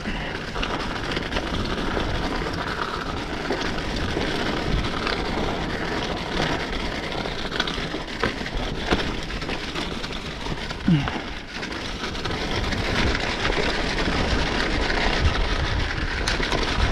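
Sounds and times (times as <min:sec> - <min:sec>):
bike clicks and knocks: 0:00.0 - 0:16.9
tyre noise on dirt trail: 0:00.0 - 0:16.9.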